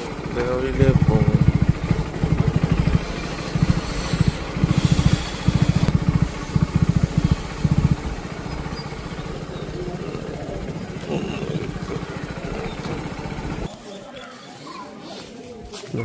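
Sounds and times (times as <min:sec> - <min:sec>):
motorcycle engine revving: 0:00.0 - 0:13.8.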